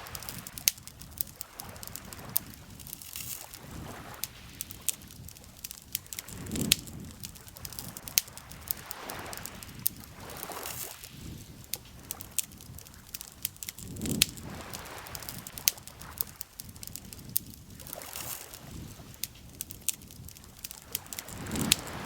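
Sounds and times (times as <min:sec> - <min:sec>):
campfire crackling and popping: 0:00.0 - 0:22.0
lake water lapping: 0:00.0 - 0:22.0.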